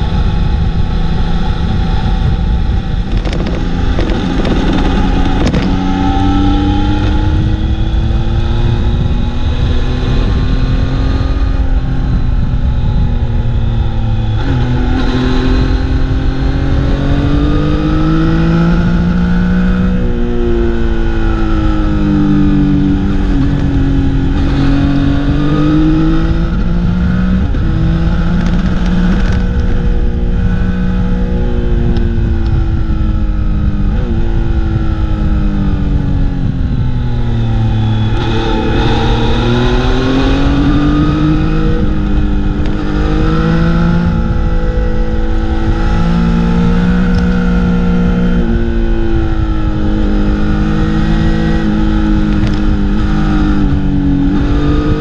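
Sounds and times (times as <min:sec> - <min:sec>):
motorcycle engine revving: 0:00.0 - 0:55.0
road rumble: 0:00.0 - 0:55.0
wind: 0:00.0 - 0:55.0.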